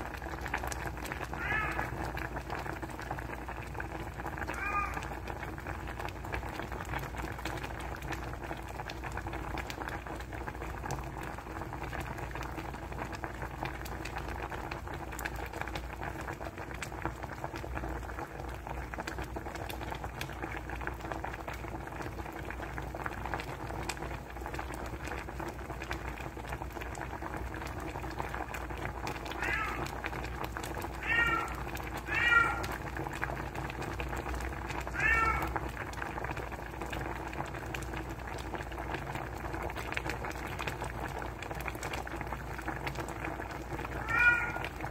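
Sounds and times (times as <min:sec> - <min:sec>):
soup boiling in a pot: 0:00.0 - 0:44.9.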